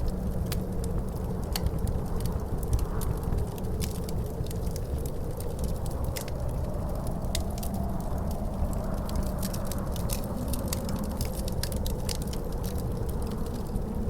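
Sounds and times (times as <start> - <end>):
wind rumble with wavering howl: 0.0 - 14.0
wood fire crackling and popping: 0.0 - 14.0.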